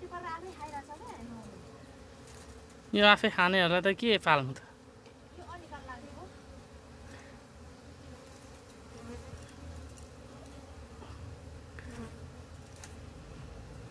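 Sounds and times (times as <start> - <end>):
bees buzzing: 0.0 - 13.9.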